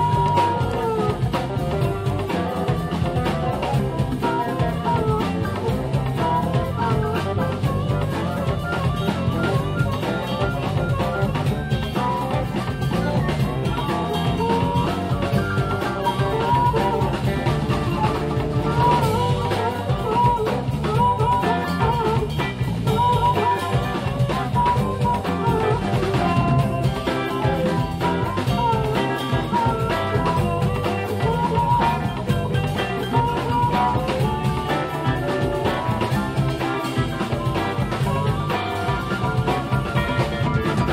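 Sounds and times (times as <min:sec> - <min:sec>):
bass guitar: 0:00.0 - 0:40.9
bending lead guitar line: 0:00.0 - 0:40.9
drum kit: 0:00.0 - 0:40.9
electric guitars: 0:00.0 - 0:40.9.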